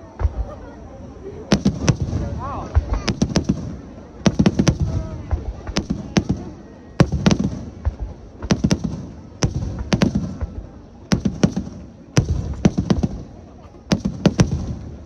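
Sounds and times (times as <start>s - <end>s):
fireworks bursting: 1.4s - 15.0s.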